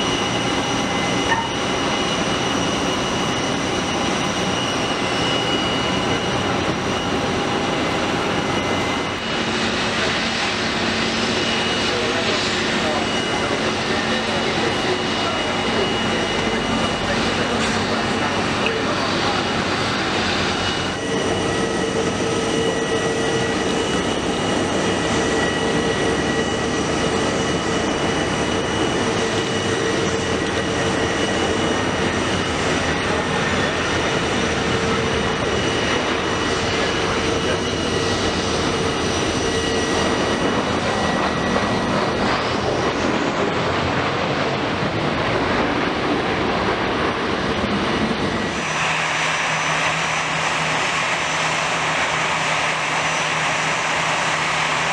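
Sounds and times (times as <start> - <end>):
jet engines rushing and whining: 0.0 - 54.9.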